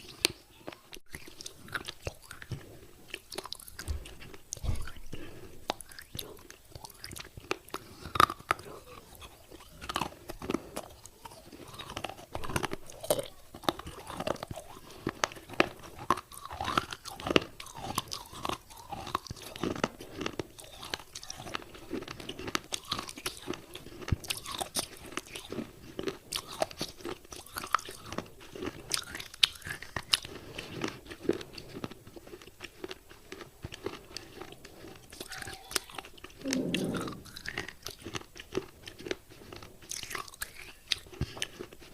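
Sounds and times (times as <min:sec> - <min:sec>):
person chewing clay crunching: 0:00.0 - 0:41.9.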